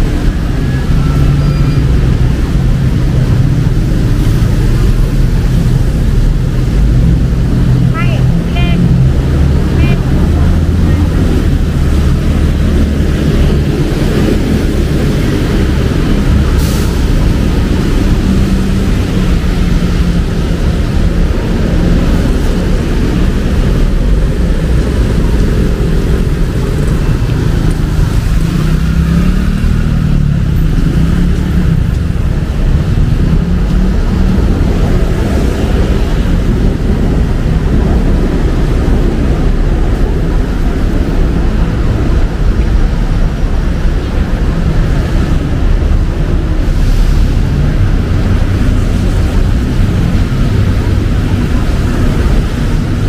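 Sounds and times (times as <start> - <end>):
traffic on wet road: 0.0 - 53.0.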